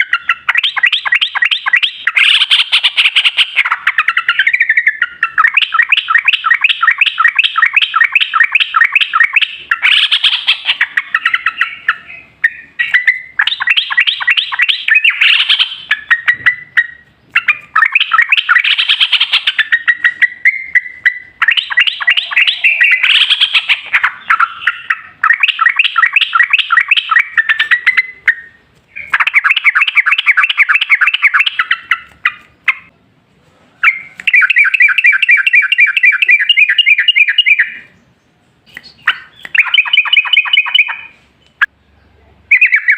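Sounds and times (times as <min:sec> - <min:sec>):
bulbul singing: 0:00.0 - 0:33.0, 0:33.8 - 0:42.9.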